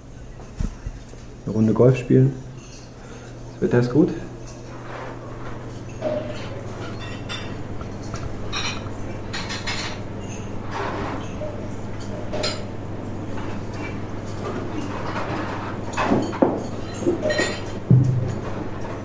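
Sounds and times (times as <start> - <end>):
steady low hum: 0.0 - 19.0
crockery and cutlery clinking: 0.4 - 19.0.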